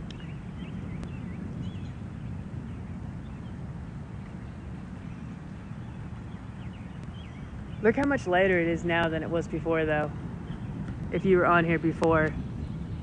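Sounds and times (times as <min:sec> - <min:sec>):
low rolling thunder: 0:00.0 - 0:13.0.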